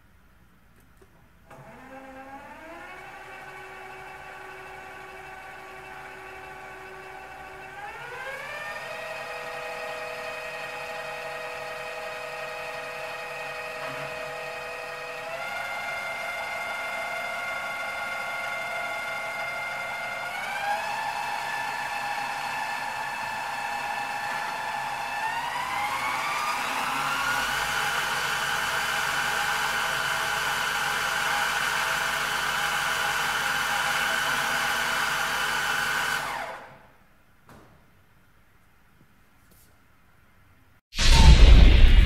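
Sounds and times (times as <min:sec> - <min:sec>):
mill-drill motor whining: 0:01.6 - 0:36.8.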